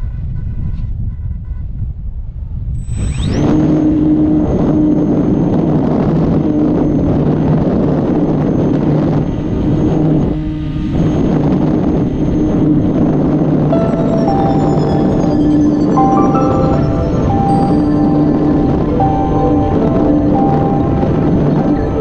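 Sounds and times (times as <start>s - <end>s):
wind rush on microphone: 0.0s - 22.0s
electric motor high whine: 3.0s - 22.0s
propeller hum: 3.4s - 16.0s, 16.6s - 22.0s.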